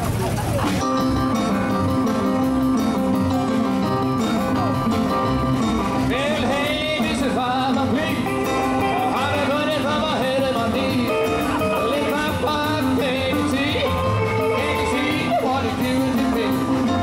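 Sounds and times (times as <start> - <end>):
rock and roll band playing: 0.0 - 17.0.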